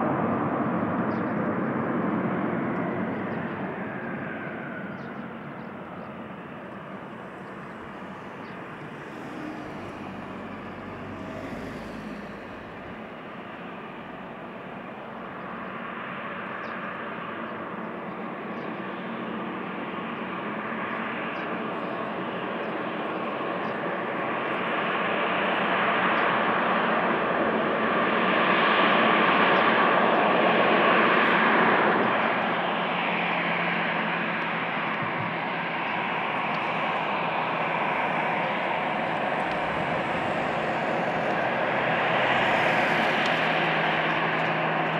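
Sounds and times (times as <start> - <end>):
jet engines rushing: 0.0 - 26.5, 30.2 - 44.9.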